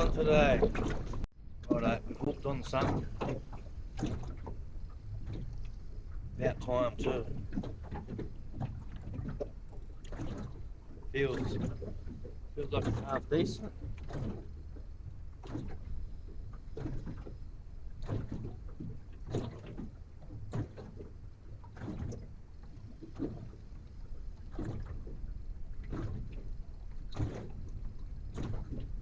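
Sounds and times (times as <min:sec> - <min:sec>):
water slapping against boat hull: 0:00.0 - 0:29.0.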